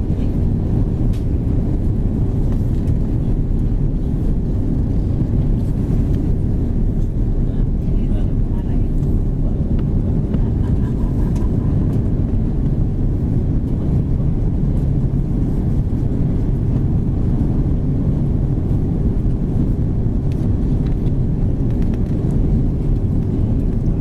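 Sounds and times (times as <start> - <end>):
aircraft cabin engine roar: 0.0 - 24.0
constant hum: 0.0 - 24.0.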